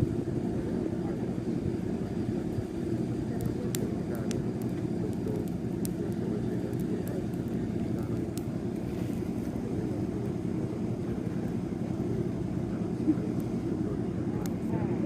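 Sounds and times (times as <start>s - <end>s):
bonfire roaring: 0.0s - 15.0s
fire crackling pops: 0.0s - 15.0s.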